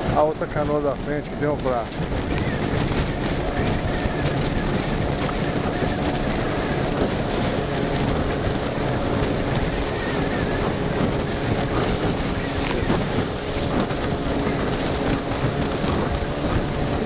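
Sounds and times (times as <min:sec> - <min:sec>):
motor boat engine drone: 0:00.0 - 0:17.0
water rushing against hull: 0:00.0 - 0:17.0.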